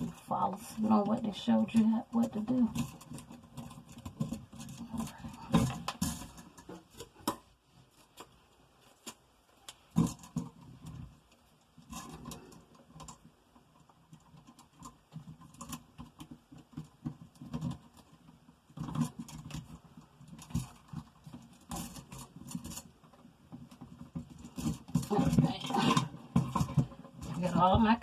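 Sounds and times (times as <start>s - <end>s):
electrical wires clicking and rustling: 0.0s - 28.0s.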